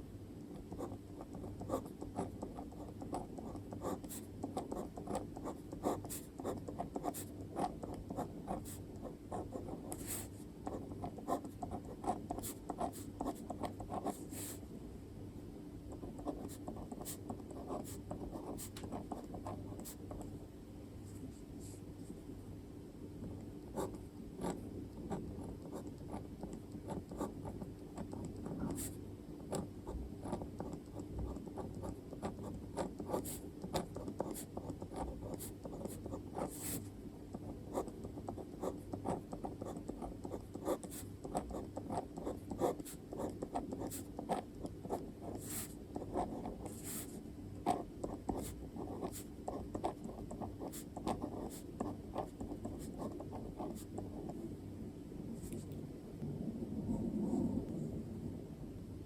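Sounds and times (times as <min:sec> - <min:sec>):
pen scratching on paper: 0:00.6 - 0:14.6, 0:15.9 - 0:20.3, 0:23.7 - 0:54.4.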